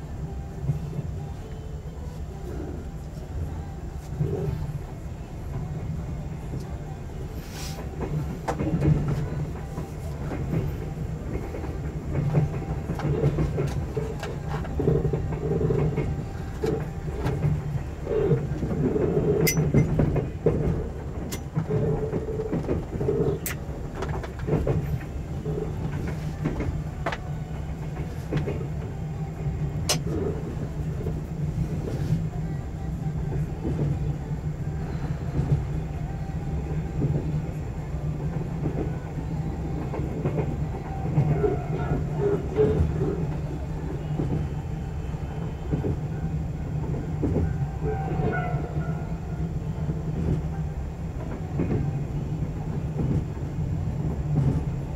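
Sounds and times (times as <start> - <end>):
wheels rumbling on rail: 0.0 - 54.9.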